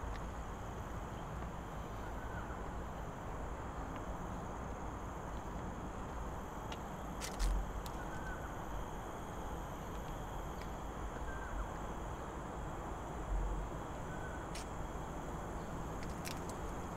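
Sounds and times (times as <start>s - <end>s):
outdoor background noise: 0.0s - 16.9s.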